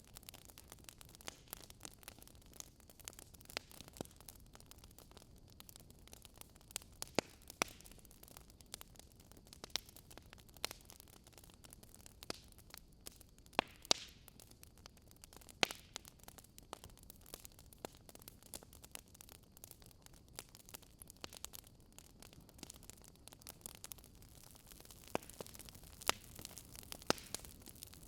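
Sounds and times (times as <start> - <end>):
burning logs crackling: 0.0 - 28.0.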